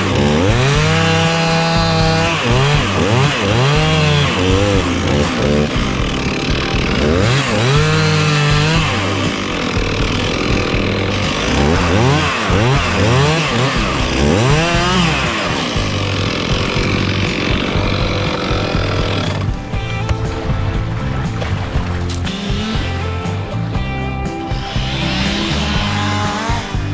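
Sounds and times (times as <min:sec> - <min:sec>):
chainsaw cutting wood: 0:00.0 - 0:19.8, 0:22.1 - 0:23.1, 0:24.5 - 0:26.9.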